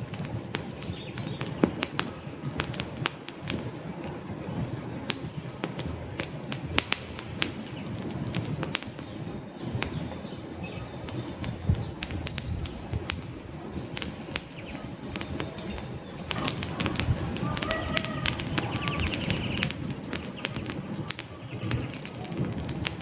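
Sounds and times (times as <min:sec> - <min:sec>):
flames fluttering: 0:00.0 - 0:23.0
logs crackling and popping: 0:00.0 - 0:23.0.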